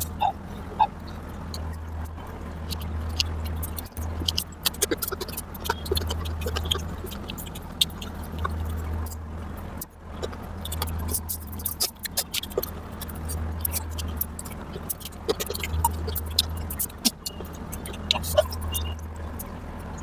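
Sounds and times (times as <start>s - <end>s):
steady low hum: 0.0s - 20.0s
wet chewing mouth sounds: 0.0s - 20.0s.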